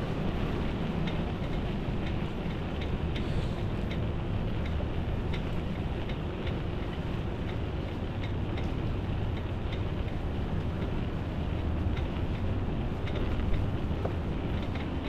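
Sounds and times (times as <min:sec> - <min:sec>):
city traffic rumble: 0:00.0 - 0:15.0
light ticks: 0:00.6 - 0:15.0.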